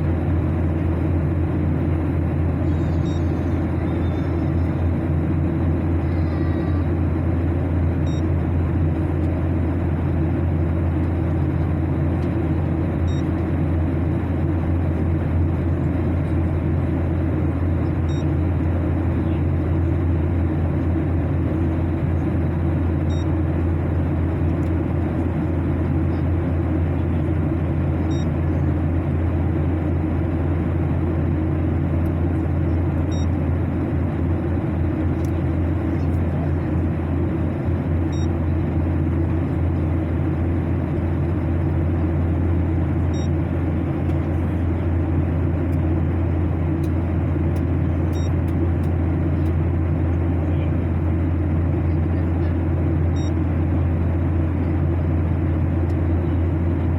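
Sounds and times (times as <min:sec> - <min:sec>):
airliner cabin rumble: 0:00.0 - 0:56.9.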